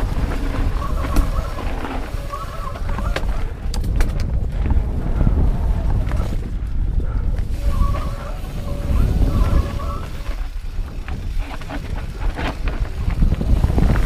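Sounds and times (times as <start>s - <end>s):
bike rattling clicks and knocks: 0.0s - 14.0s
tyres rushing on dirt trail: 0.0s - 14.0s
wind buffeting a camera: 0.0s - 14.0s.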